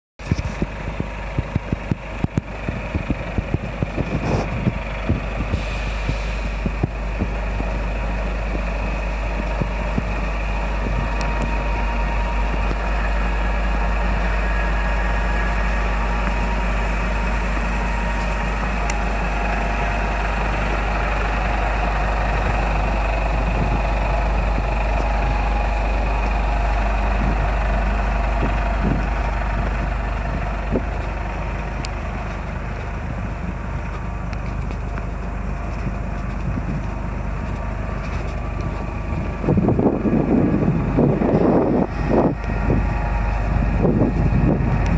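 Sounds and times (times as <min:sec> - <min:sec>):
truck engine idling: 0:00.2 - 0:44.9.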